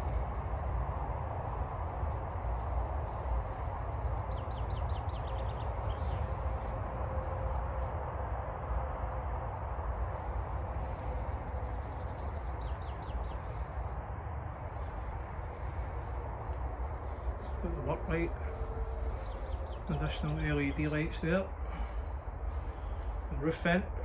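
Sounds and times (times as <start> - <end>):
birds chirping: 0.0 - 7.9, 8.9 - 24.0
low rumble: 0.0 - 24.0.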